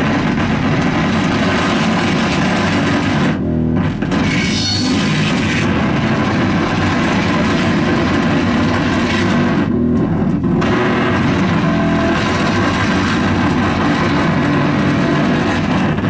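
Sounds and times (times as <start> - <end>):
distorted electronic noise: 0.0 - 16.0.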